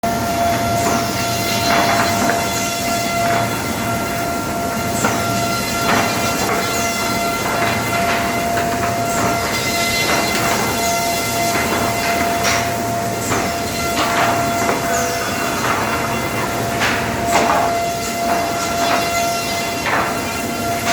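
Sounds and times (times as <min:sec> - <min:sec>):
wood moulder whining: 0:00.2 - 0:20.9.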